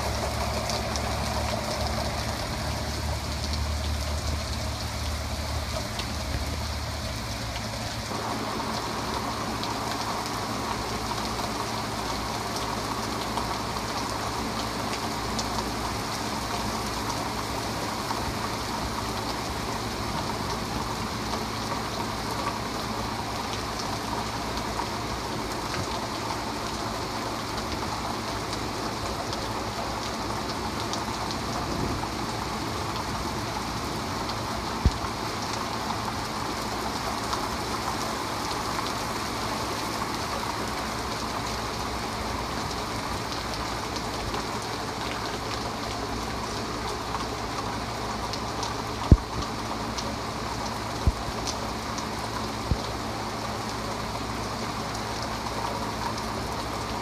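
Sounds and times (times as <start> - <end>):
steady rain on pavement: 0.0 - 57.0.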